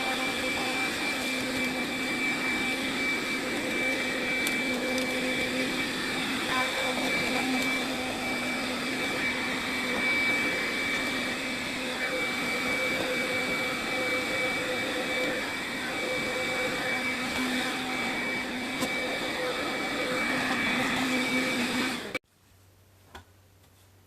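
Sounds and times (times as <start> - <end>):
vacuum cleaner running: 0.0 - 22.2.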